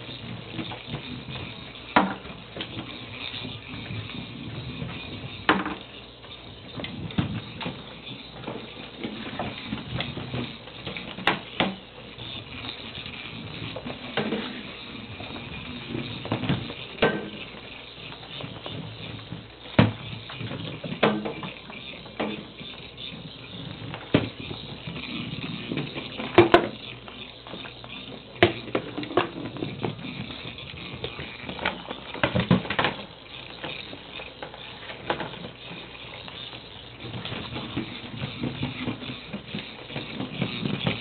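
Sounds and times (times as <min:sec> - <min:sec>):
ferrets scrabbling on tile floor: 0:00.0 - 0:41.0
toy ball knocking and clicking: 0:00.0 - 0:41.0.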